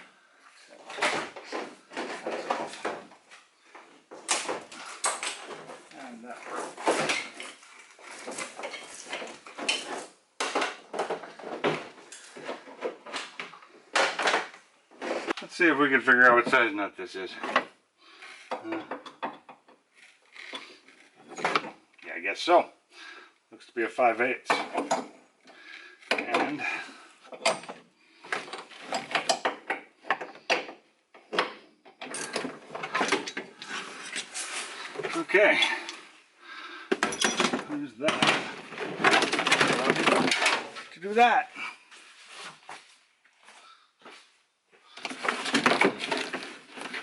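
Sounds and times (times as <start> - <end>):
hand tools clunking and scraping: 0.0 - 15.5, 17.3 - 22.1, 24.4 - 47.0.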